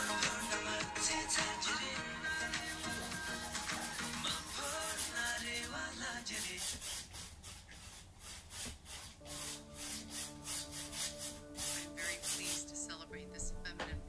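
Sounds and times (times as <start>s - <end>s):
soft background music: 0.0s - 6.7s, 9.2s - 14.0s
paintbrush scrubbing canvas: 0.0s - 12.9s.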